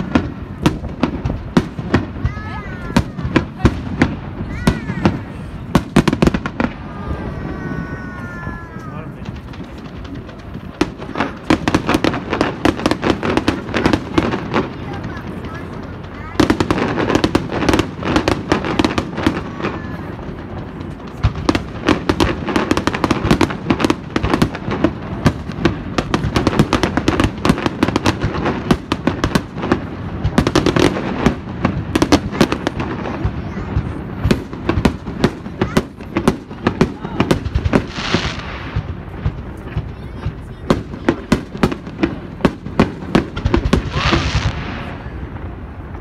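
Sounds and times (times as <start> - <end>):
crowd chatter: 0.0 - 46.0
fireworks bangs and crackles: 0.0 - 46.0
hissing crackle: 0.0 - 46.0.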